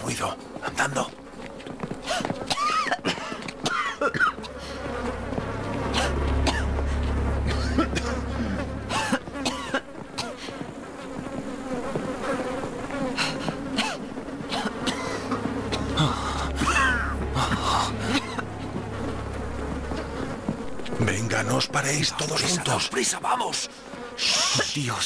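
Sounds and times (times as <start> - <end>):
flies buzzing: 0.0 - 25.0
low hum: 1.4 - 22.5.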